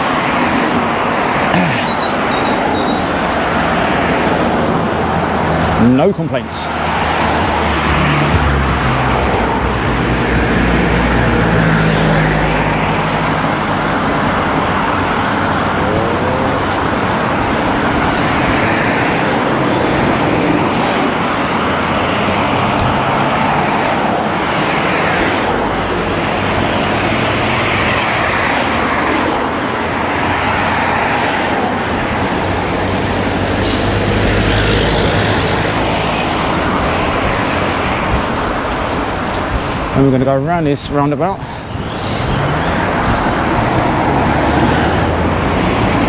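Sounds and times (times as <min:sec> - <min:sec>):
cars passing on road: 0:00.0 - 0:46.0
vehicle engine running nearby: 0:00.0 - 0:46.0.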